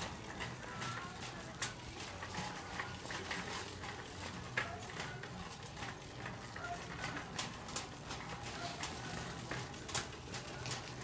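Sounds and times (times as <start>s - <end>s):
shopping cart clicks and rattles: 0.0s - 11.0s.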